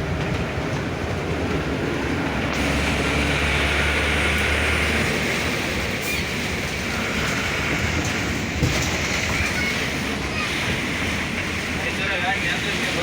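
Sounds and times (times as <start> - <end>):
heavy rain: 0.0 - 13.0
road noise rumble: 0.0 - 13.0.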